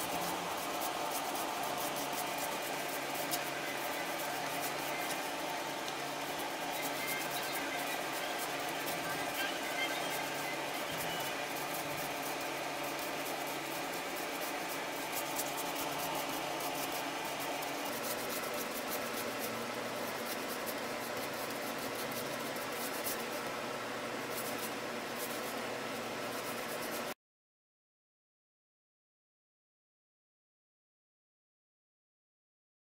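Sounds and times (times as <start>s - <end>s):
paintbrush scrubbing plywood: 0.0s - 23.5s, 24.2s - 27.2s
background hum: 0.0s - 27.1s.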